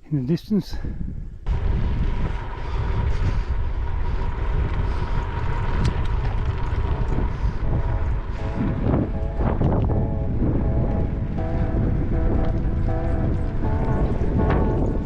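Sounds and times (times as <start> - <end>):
wind rushing over microphone: 0.7 - 15.0
faint steady whine: 1.5 - 15.0
tyres rolling on gravel: 1.5 - 15.0.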